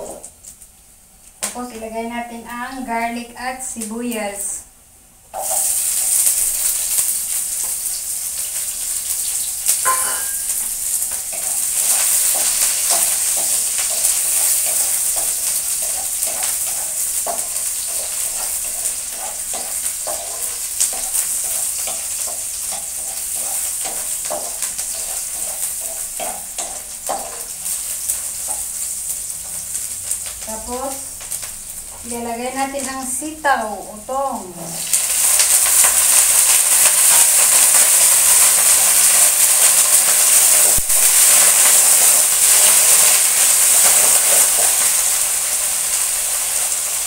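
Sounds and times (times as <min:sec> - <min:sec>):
garlic and onion sizzling in oil: 0:00.0 - 0:47.0.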